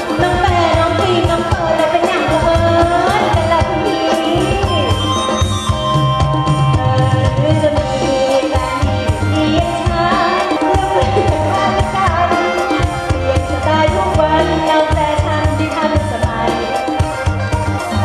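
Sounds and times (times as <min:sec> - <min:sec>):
drums keeping a steady beat: 0:00.0 - 0:18.0
live band music: 0:00.0 - 0:18.0.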